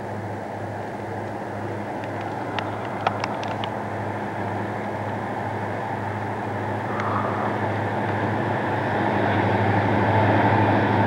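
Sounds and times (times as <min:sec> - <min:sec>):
diesel locomotives rumbling: 0:00.0 - 0:11.0.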